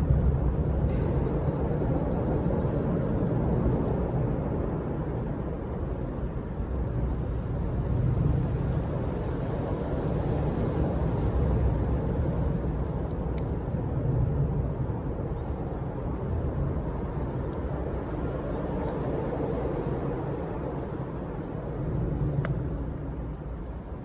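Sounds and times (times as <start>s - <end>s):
bonfire rushing: 0.0s - 24.0s
fire crackling: 0.0s - 24.0s.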